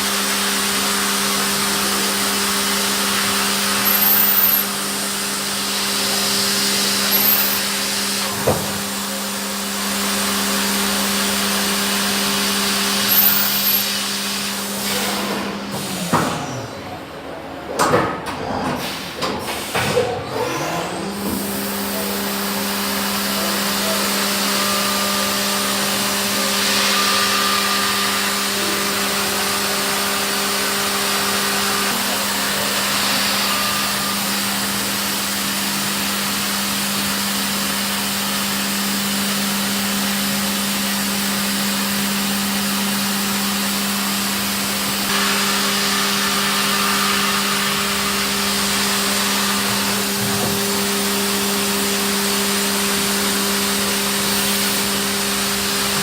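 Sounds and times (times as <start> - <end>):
hiss of cutting and coolant: 0.0 - 17.0, 18.6 - 56.0
milling machine spindle humming: 0.0 - 17.4, 20.2 - 56.0.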